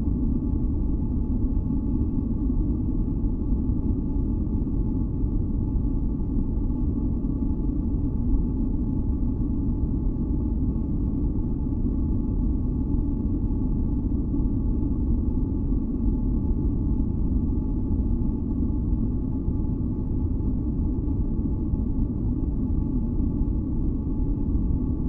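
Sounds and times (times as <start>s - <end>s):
deep steady rumble: 0.0s - 25.0s
faint hum tones: 0.0s - 25.0s.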